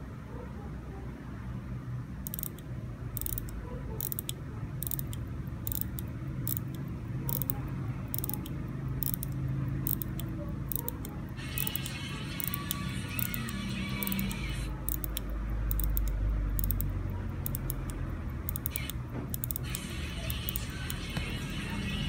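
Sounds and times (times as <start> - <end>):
watch winding ratchet clicks: 2.2 - 22.0.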